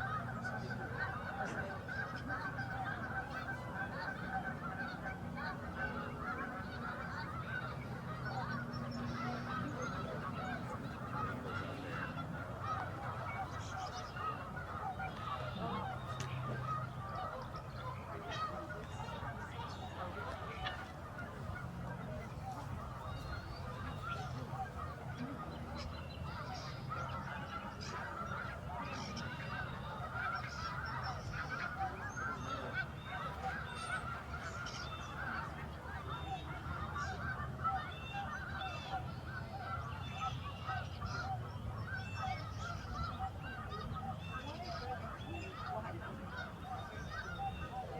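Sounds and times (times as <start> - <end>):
geese honking: 0.0 - 47.9.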